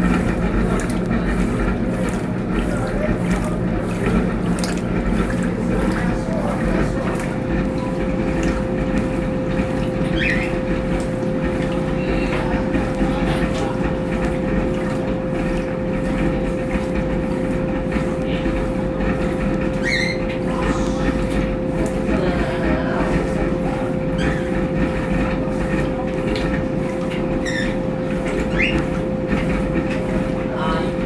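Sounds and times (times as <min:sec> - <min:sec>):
washing machine running: 0:00.0 - 0:31.0.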